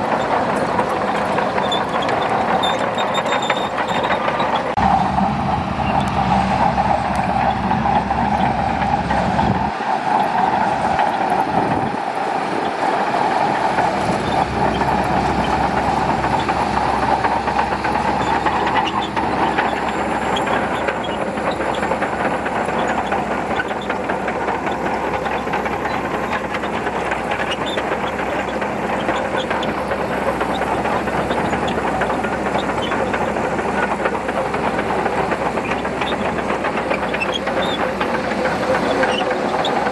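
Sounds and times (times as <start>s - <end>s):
bulldozer engine running: 0.0s - 39.9s
steel tracks clattering: 0.0s - 39.9s.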